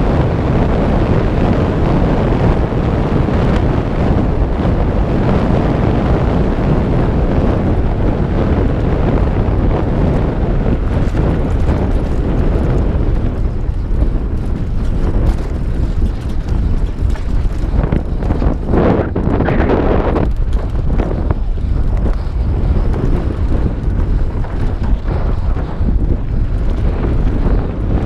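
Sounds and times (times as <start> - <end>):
bike knocking and rattling: 0.0 - 28.0
wind rushing over microphone: 0.0 - 28.0.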